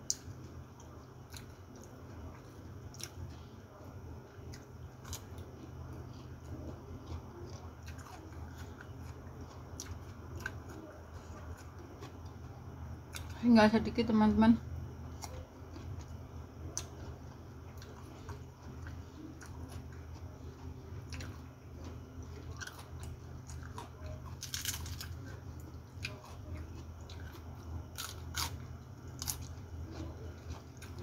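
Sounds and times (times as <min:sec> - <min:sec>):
chewing and crunching food: 0:00.0 - 0:31.0
low steady hum: 0:00.0 - 0:31.0.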